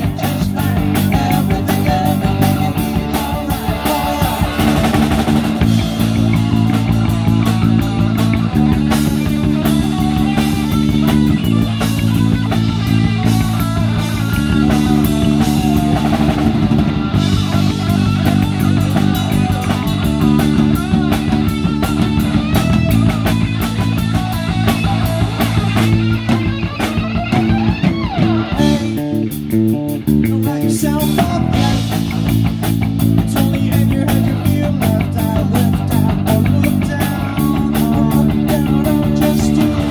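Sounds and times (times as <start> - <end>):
bass riff: 0.0 - 39.9
drum kit: 0.0 - 39.9
electric guitar lines: 0.0 - 39.9.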